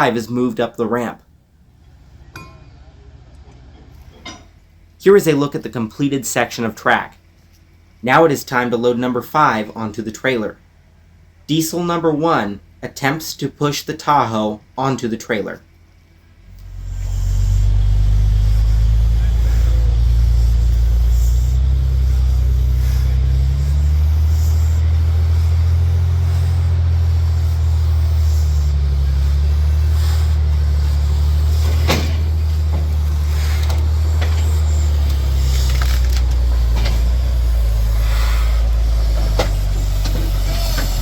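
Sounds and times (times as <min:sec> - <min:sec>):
diesel locomotive engine under load: 0:00.0 - 0:41.0.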